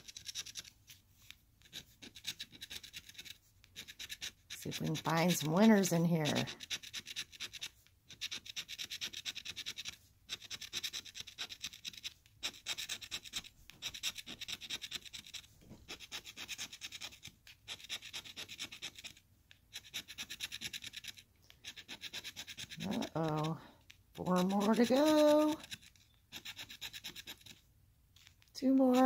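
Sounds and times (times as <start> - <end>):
pen scraping scratch-off ticket: 0.0 - 27.6, 28.2 - 29.0.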